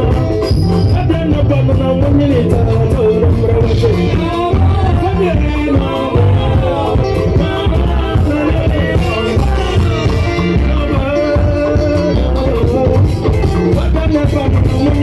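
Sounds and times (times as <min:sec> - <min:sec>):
drum and bass beat: 0:00.0 - 0:15.0
man singing into a microphone: 0:00.0 - 0:15.0.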